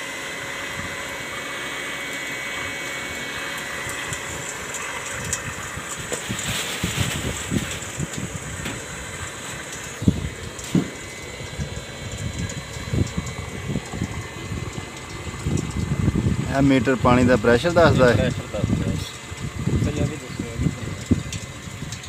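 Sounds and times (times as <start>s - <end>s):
water pump humming and whining: 0.0s - 22.0s
water rushing through pipe: 0.0s - 22.0s.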